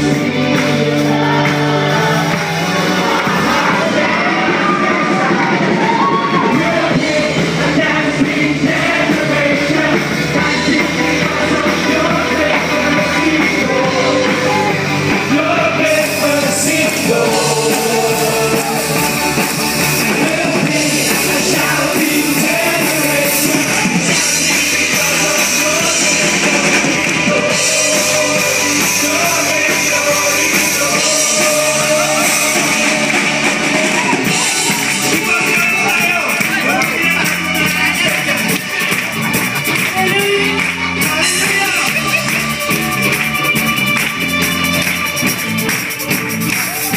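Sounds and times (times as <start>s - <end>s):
lead singer singing: 0.0s - 42.9s
live rock band playing: 0.0s - 46.9s.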